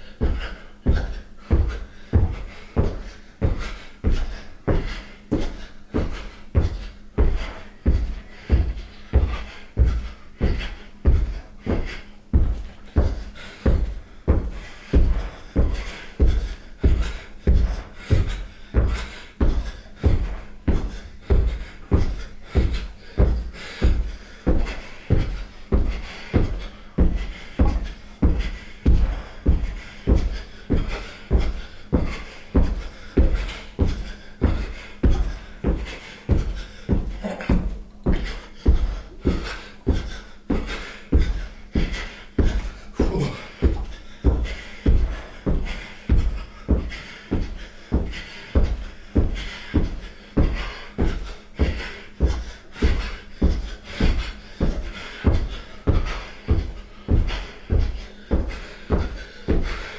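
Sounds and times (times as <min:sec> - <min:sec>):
rhythmic thuds on hard floor: 0:00.0 - 0:59.9
heavy ringing thumps: 0:06.0 - 0:59.8.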